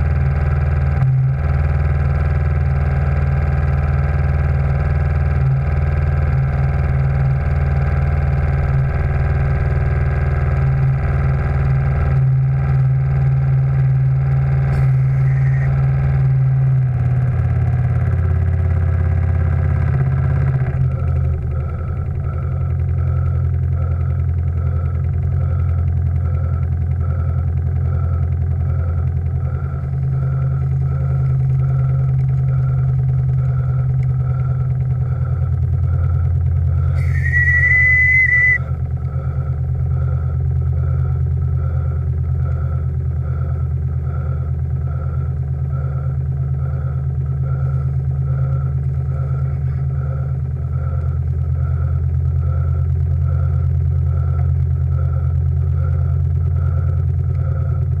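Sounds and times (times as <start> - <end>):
steam engine droning: 0.0 - 58.0.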